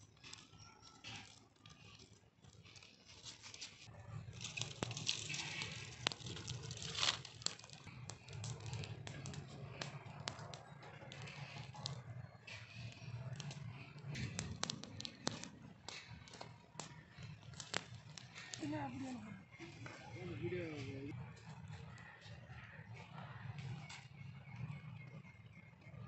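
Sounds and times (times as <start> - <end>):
twigs rustling and clattering: 0.0 - 21.0
wood fire crackling: 0.0 - 26.0.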